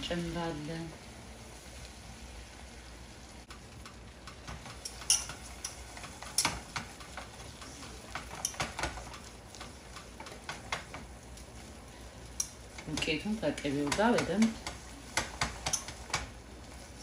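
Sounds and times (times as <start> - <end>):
faint sizzle: 0.0 - 17.0.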